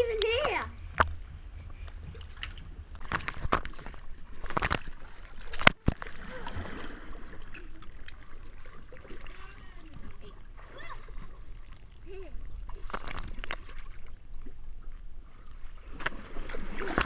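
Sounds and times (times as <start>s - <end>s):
water splashing in a pool: 2.0s - 17.0s.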